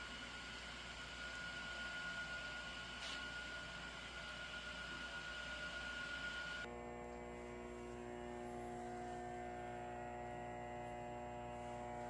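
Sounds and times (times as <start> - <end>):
transformer electrical hum: 0.0 - 12.0.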